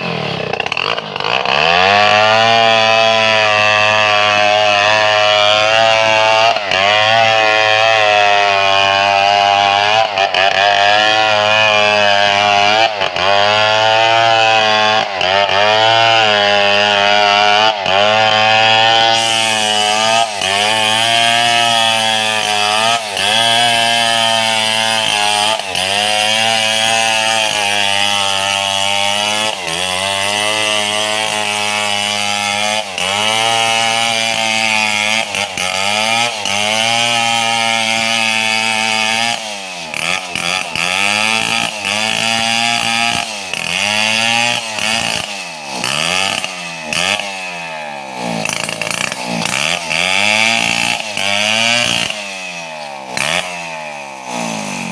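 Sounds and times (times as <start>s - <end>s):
chainsaw cutting log: 0.0s - 54.9s.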